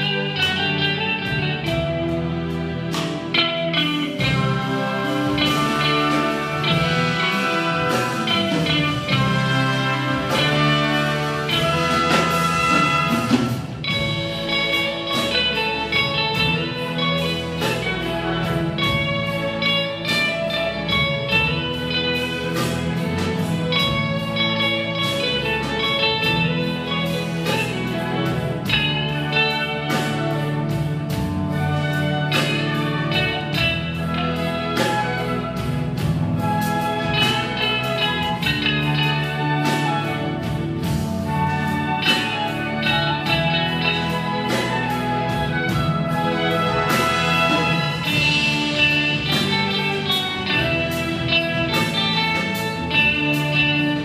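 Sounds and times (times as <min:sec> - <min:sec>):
electric guitar melody: 0:00.0 - 0:54.0
symphony orchestra: 0:00.0 - 0:54.0.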